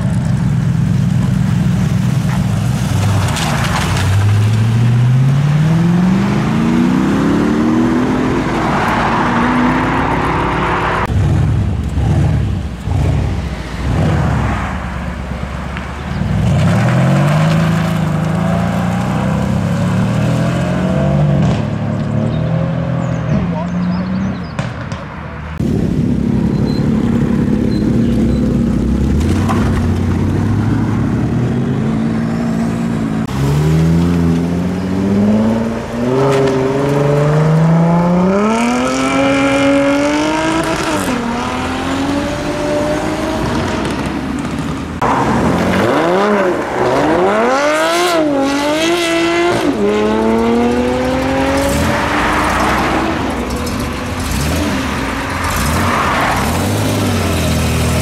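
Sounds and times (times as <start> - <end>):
car engines revving and accelerating: 0.0 - 58.0.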